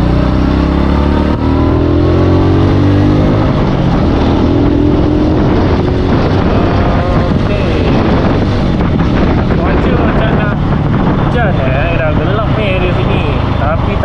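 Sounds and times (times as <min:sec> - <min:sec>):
motor scooter engine revving: 0:00.0 - 0:11.9.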